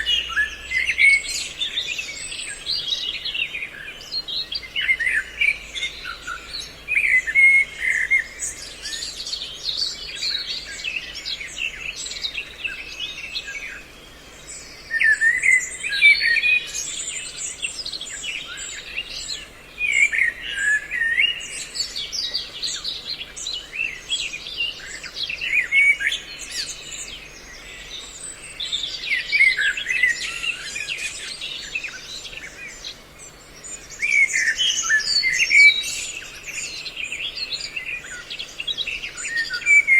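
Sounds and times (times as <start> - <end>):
songbirds chattering and whistling: 0.0 - 39.9.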